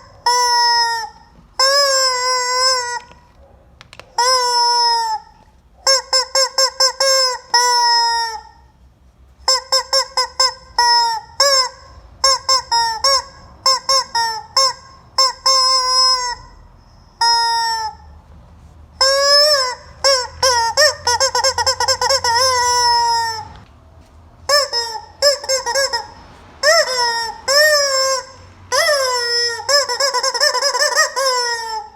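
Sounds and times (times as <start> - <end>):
rubber chicken toy squawking: 0.0 - 8.8, 9.4 - 18.2, 19.0 - 23.7, 24.4 - 31.9.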